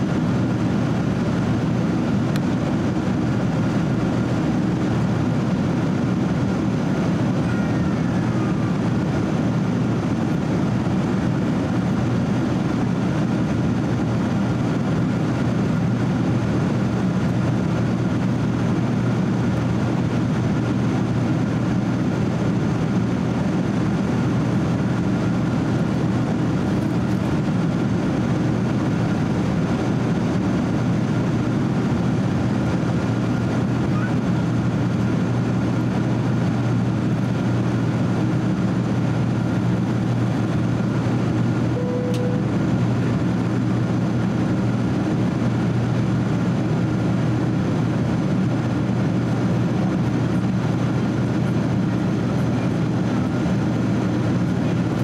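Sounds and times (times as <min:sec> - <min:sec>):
faint steady whine: 0:00.0 - 0:55.0
jet engines rumbling: 0:00.0 - 0:55.0.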